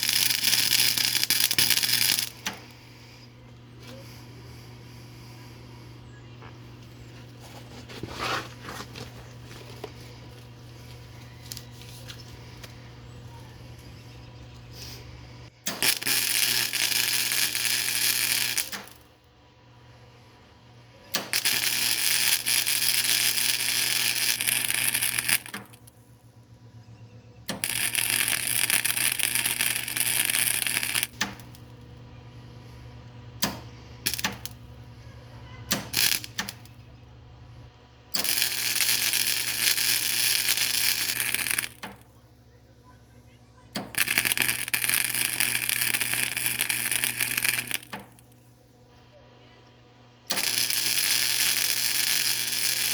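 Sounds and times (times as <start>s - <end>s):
welder arcing crackling sizzle: 0.0s - 19.2s, 21.1s - 26.0s, 27.4s - 31.8s, 33.4s - 35.1s, 35.7s - 37.0s, 38.1s - 42.2s, 43.7s - 48.5s, 50.2s - 52.9s
low steady hum: 0.0s - 52.9s.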